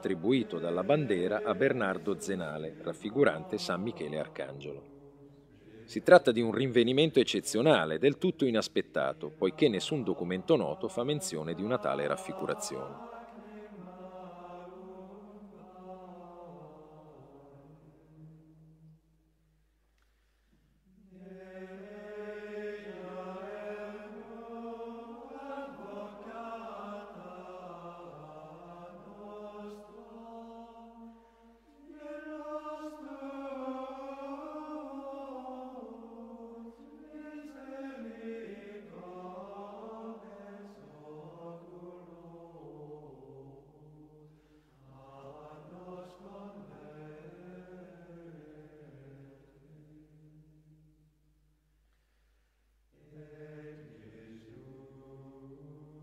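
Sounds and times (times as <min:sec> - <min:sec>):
slow sung chant: 0:00.0 - 0:07.8, 0:08.5 - 0:19.4, 0:20.0 - 0:51.2, 0:51.8 - 0:56.0.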